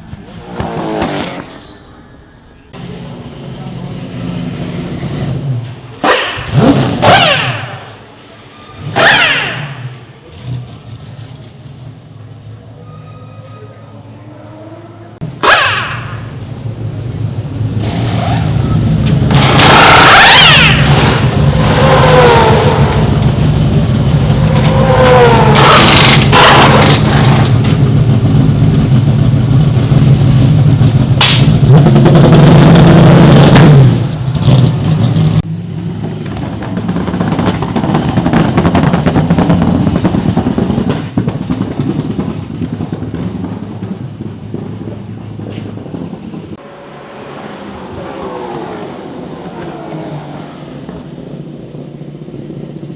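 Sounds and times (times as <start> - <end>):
race cars passing at speed: 0.0 - 12.5, 15.2 - 52.9.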